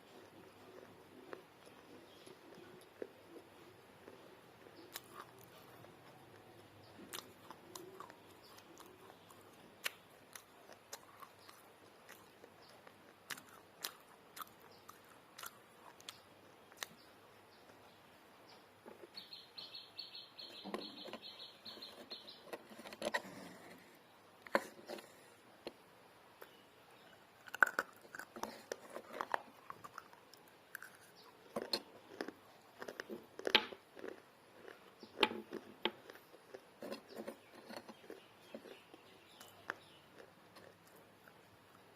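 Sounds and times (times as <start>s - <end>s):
biting and chewing clay pieces: 0.0s - 18.0s, 20.4s - 41.9s.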